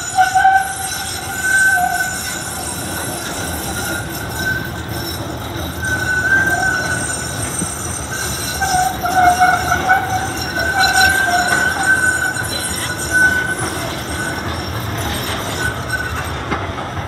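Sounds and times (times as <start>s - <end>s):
tram running rumble: 0.0s - 17.0s
tram wheels squealing on rails: 0.0s - 17.0s.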